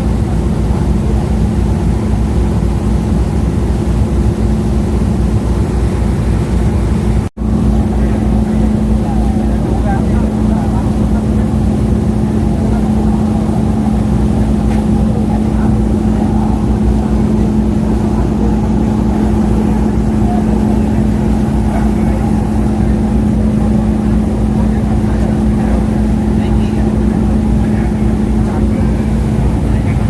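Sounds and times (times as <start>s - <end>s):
ferry engines droning: 0.0s - 30.0s.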